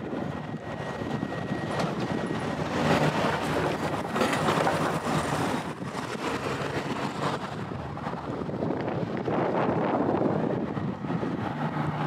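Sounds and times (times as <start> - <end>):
train running on tracks: 0.0 - 12.0.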